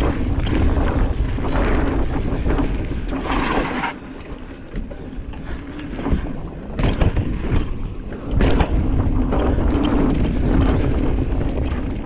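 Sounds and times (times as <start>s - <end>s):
bike knocking and rattling: 0.0s - 12.0s
tyres rolling on dirt: 0.0s - 12.0s
wind rushing over microphone: 0.0s - 12.0s.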